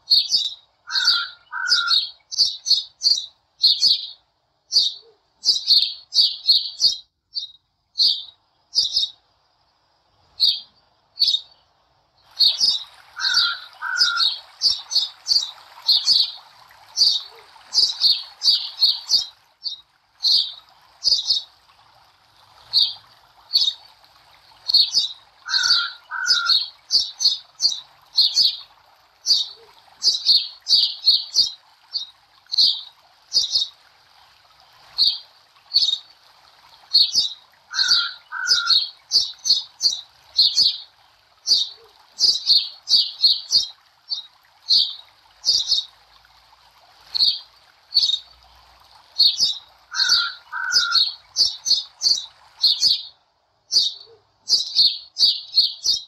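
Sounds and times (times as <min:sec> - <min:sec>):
small birds chirping: 0:00.0 - 0:09.2, 0:10.3 - 0:21.6, 0:22.6 - 0:23.9, 0:24.6 - 0:33.8, 0:34.9 - 0:36.1, 0:36.8 - 0:45.9, 0:47.1 - 0:48.4, 0:49.2 - 0:56.0.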